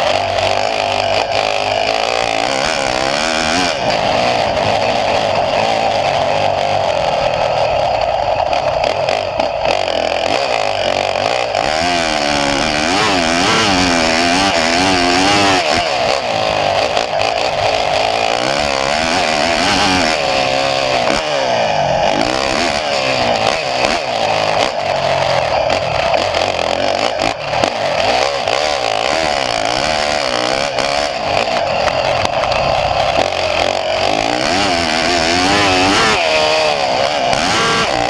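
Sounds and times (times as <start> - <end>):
dirt bike engine revving: 0.0 - 38.0
track noise: 0.0 - 38.0.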